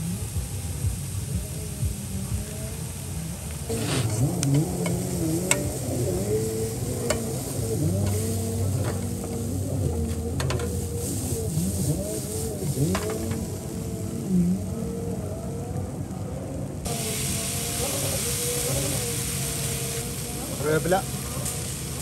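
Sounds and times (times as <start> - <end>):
spices sizzling in a frying pan: 0.0 - 15.0, 16.9 - 22.0.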